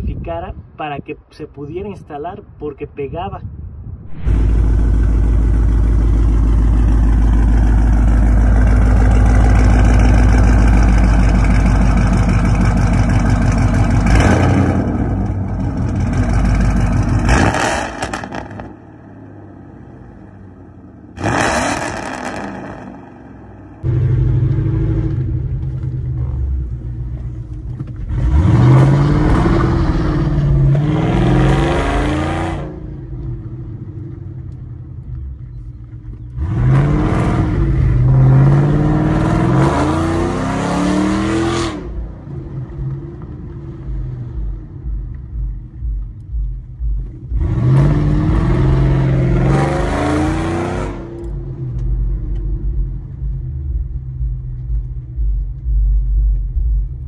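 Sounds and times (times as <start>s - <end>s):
car engine idling and revving: 4.1s - 57.0s.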